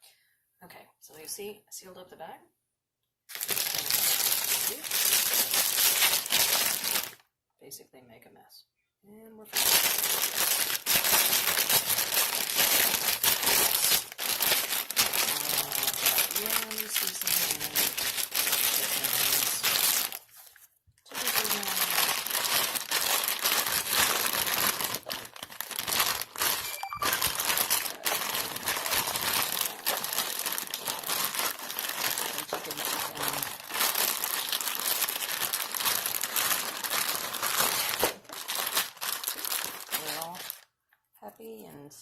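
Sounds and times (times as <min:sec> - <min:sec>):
plastic bag crinkling: 0:03.3 - 0:07.2, 0:09.5 - 0:40.7.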